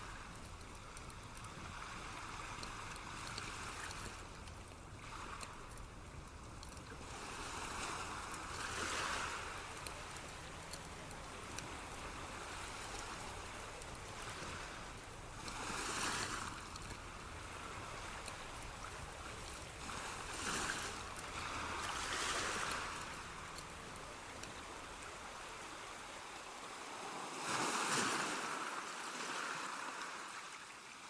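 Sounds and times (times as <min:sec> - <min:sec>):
soft rushing water: 0:00.0 - 0:31.0.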